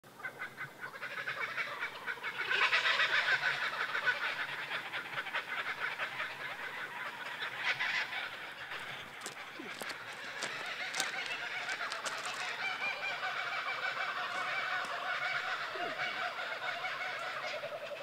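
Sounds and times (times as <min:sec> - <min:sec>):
birds chattering chorus: 0:00.2 - 0:18.0.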